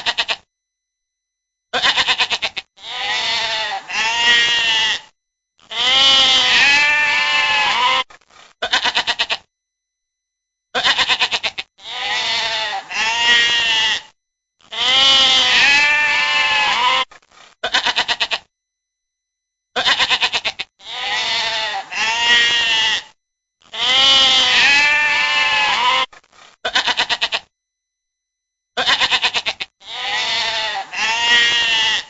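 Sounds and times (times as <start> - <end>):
sheep bleating: 0.0 - 0.4, 1.8 - 9.4, 10.8 - 18.5, 19.8 - 27.5, 28.8 - 32.0.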